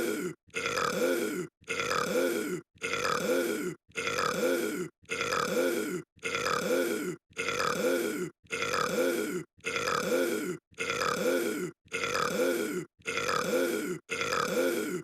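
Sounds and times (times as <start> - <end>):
person burping: 0.0 - 15.0.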